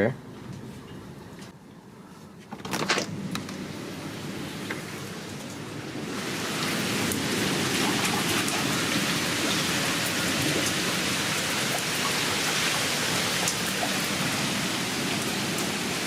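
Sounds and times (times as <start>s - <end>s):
steady rain falling: 2.8s - 16.0s.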